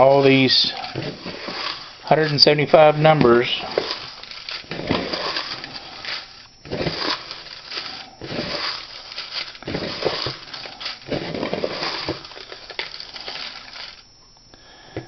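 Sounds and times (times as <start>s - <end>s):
paper slips rustling in bucket: 0.0s - 14.0s.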